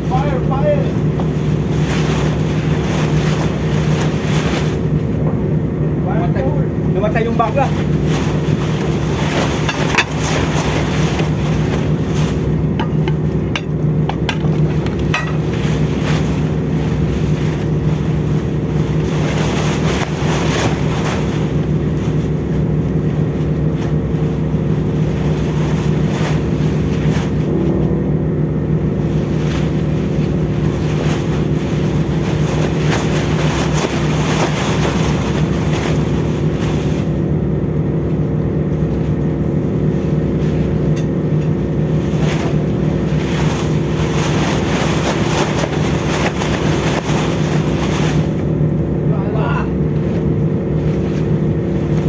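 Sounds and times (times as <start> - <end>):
ship engines droning: 0.0 - 52.0.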